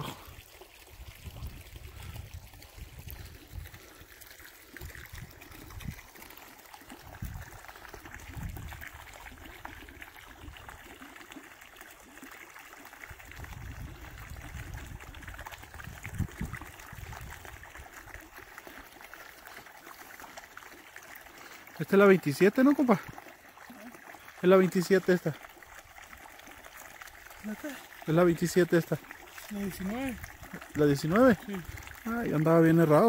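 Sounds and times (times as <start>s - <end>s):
stream trickling over rocks: 0.0s - 33.0s.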